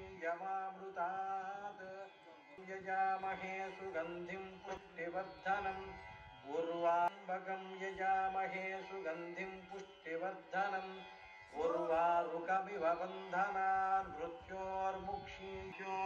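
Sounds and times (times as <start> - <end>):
chant-like melody: 0.0 - 16.0.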